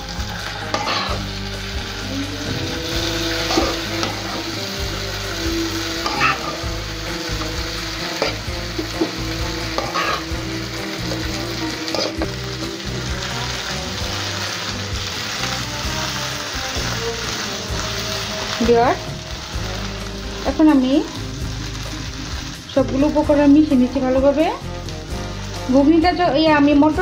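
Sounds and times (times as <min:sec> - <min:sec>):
frying sizzle: 0:00.0 - 0:27.0.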